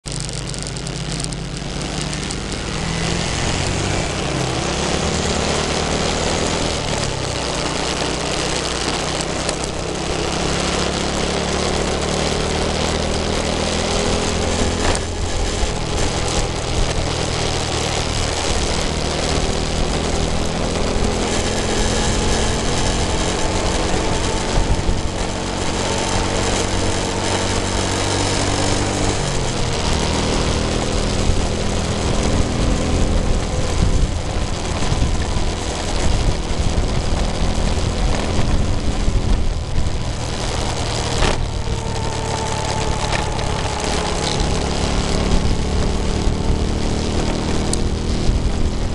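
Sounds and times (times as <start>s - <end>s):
motorcycle engine cruising: 0.0s - 48.9s
wind and road noise: 0.0s - 48.9s.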